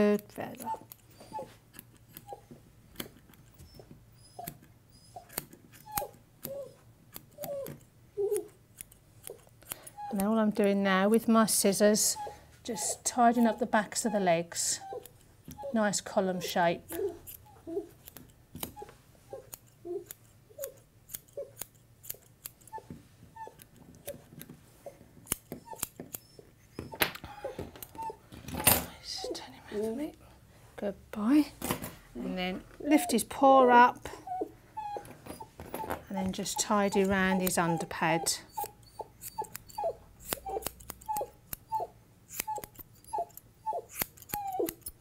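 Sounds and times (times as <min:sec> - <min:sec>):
grooming scissors snipping: 0:00.0 - 0:28.2, 0:32.8 - 0:34.1, 0:35.0 - 0:45.0
puppy whimpering: 0:00.5 - 0:02.6, 0:03.4 - 0:08.6, 0:09.8 - 0:10.5, 0:11.7 - 0:18.0, 0:18.7 - 0:21.6, 0:22.6 - 0:24.2, 0:24.8 - 0:29.9, 0:32.5 - 0:45.0.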